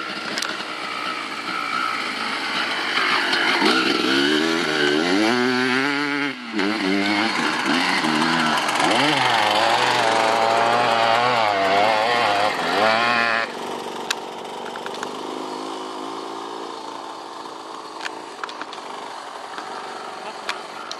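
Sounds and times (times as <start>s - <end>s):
motocross bike revving: 0.0s - 20.9s.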